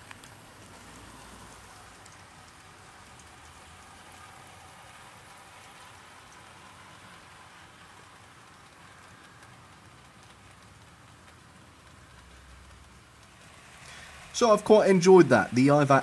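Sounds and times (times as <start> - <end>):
model train wheels rolling: 0.0 - 16.0.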